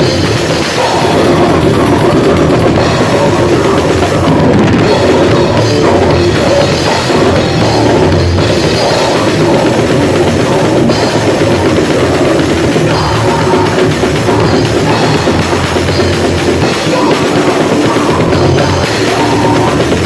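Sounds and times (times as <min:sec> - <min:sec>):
distorted heavy metal band: 0:00.0 - 0:20.0
drum kit: 0:00.0 - 0:20.0.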